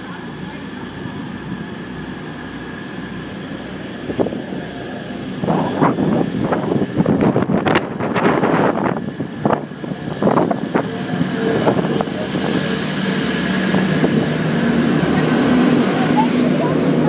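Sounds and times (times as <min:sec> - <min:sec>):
diesel train pulling away: 0:00.0 - 0:17.0
train engine whine: 0:00.0 - 0:17.0
wind buffeting microphone: 0:00.0 - 0:17.0.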